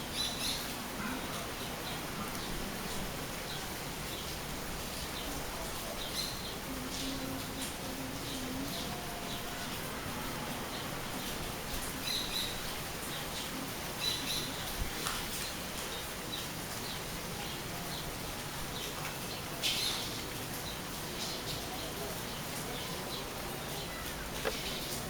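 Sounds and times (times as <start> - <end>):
steady rainfall: 0.0 - 25.0.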